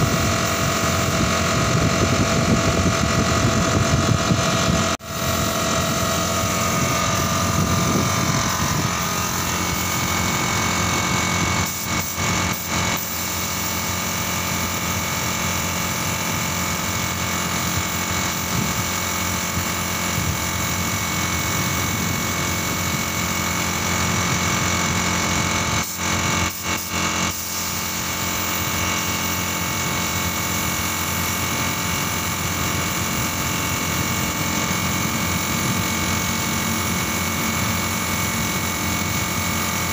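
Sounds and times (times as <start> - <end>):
air spray gun hissing: 0.0 - 39.9.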